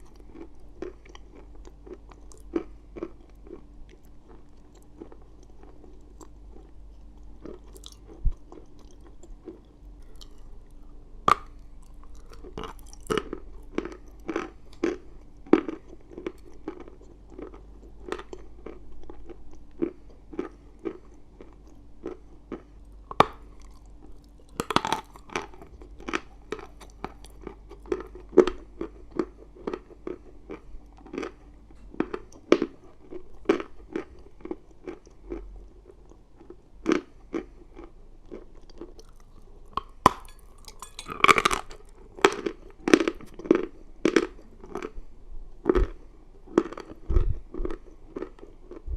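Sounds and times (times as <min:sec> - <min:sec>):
chalk crunching while chewed: 0:00.0 - 0:45.0, 0:45.6 - 0:48.9.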